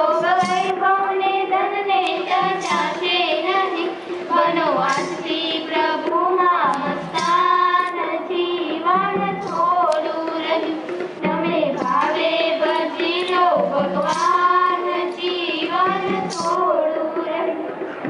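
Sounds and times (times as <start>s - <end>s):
girls singing into a microphone: 0.0s - 18.0s.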